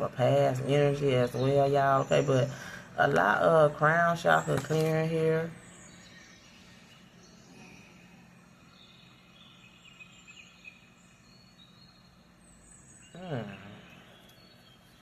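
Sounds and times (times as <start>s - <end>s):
faint birdsong chirping: 0.0s - 15.0s
soft steady background hum: 0.0s - 15.0s.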